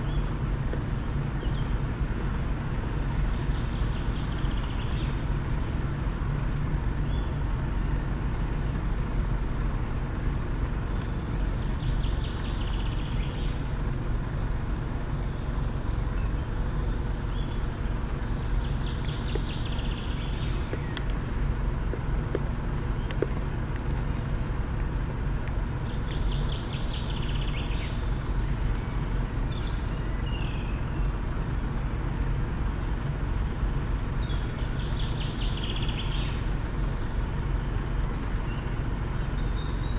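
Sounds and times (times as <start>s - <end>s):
songbirds singing: 0.0s - 39.9s
steady low rumble: 0.0s - 39.9s.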